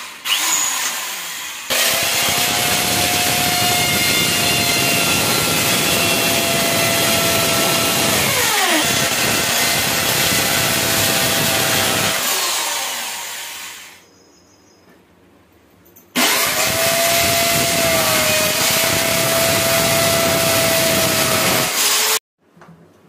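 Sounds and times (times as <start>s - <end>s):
electric drill boring into wall: 0.0s - 14.0s, 16.2s - 22.2s.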